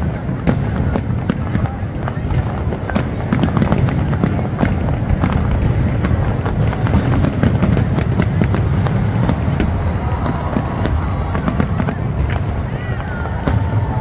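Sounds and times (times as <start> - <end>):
fireworks rumbling: 0.0 - 14.0
fireworks sharp cracks: 0.0 - 14.0.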